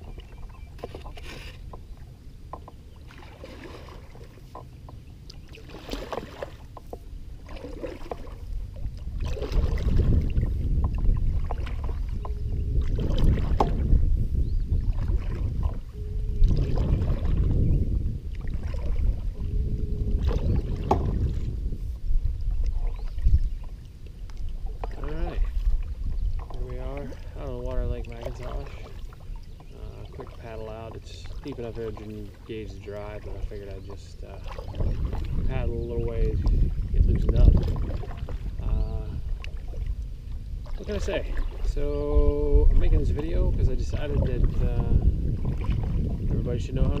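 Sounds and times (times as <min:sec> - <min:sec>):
kayak paddle stroking through water: 0:00.0 - 0:47.0
low rumble: 0:07.1 - 0:47.0.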